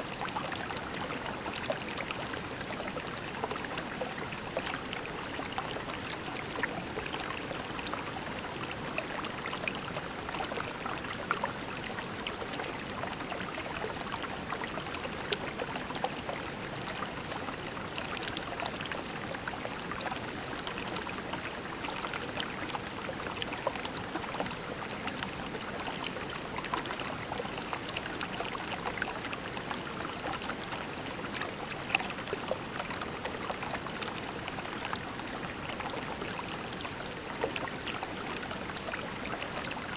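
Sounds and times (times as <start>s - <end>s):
creek flowing over pebbles: 0.0s - 39.9s.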